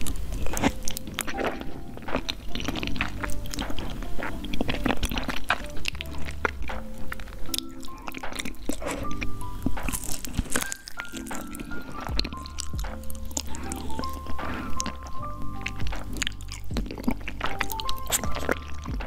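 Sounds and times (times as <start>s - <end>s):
background music: 0.0s - 19.0s
wet chewing and smacks: 0.0s - 19.0s.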